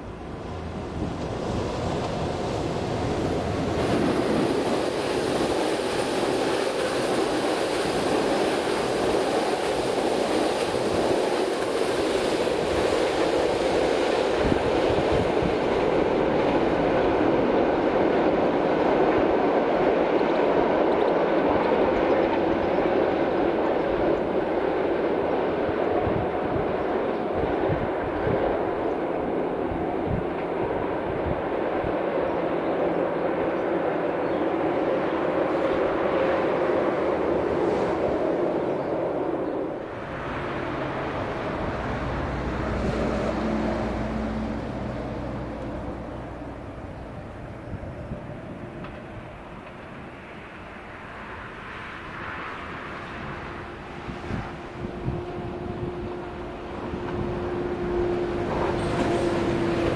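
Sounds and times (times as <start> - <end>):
train wheels rolling on rail: 0.0 - 59.9.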